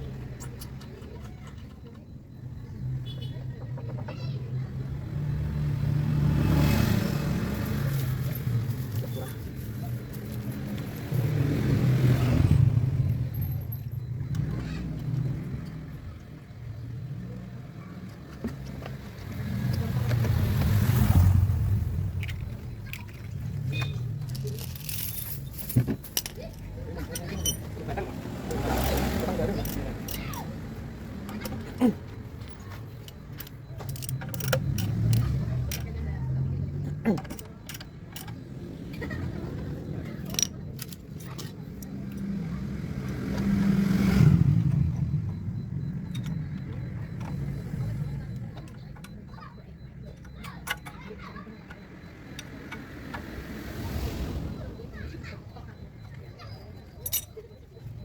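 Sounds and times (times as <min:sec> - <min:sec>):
car engine humming: 0:00.0 - 0:58.0.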